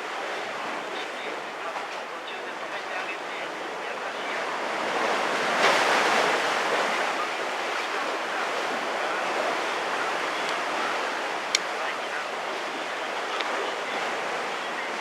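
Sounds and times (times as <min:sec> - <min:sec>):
sea waves surging and washing: 0:00.0 - 0:15.0.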